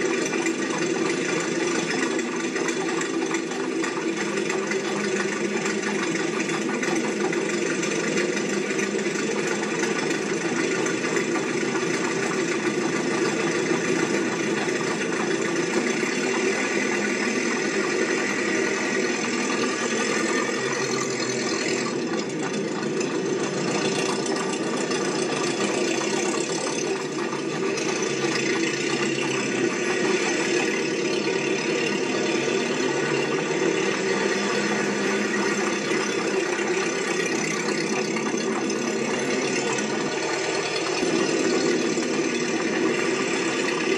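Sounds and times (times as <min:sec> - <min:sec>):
rattling mechanical running noise: 0:00.0 - 0:43.9.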